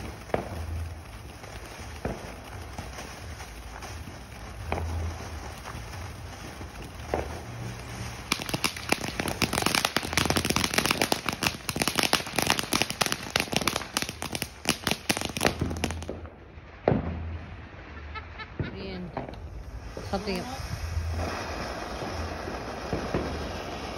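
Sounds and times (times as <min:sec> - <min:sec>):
firework hissing and crackling: 0:00.0 - 0:23.9.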